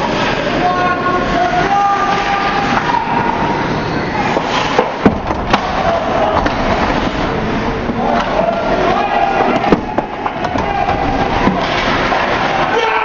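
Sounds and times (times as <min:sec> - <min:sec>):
skates and arena noise: 0:00.0 - 0:13.0.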